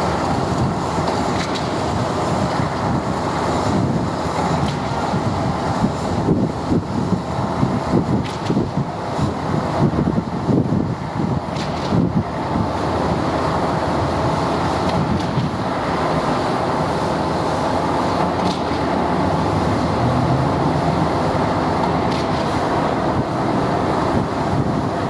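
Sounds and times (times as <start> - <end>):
heavy machinery diesel engines: 0.0 - 25.0.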